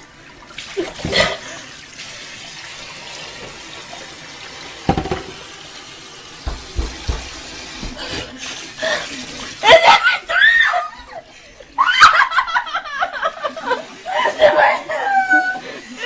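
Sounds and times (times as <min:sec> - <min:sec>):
faucet running: 0:00.0 - 0:16.0.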